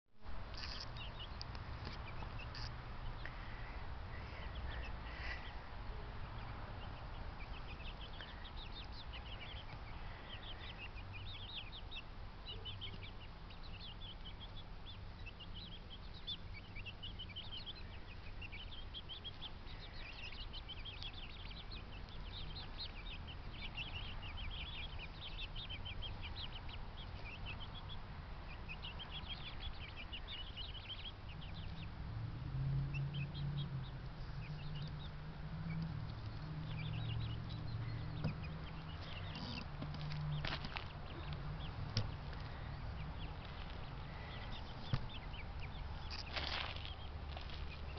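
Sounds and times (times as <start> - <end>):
low steady rumble: 0.2 - 47.9
poultry birds chirping: 0.4 - 47.9.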